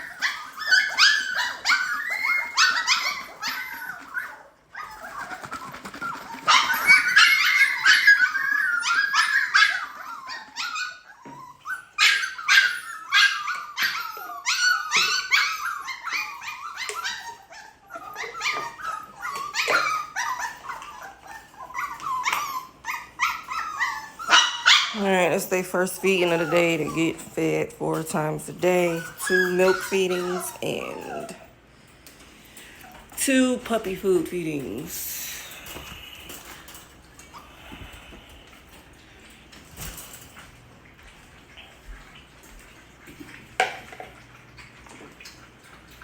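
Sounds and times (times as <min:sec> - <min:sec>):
puppies whining and yipping: 0:00.0 - 0:46.0.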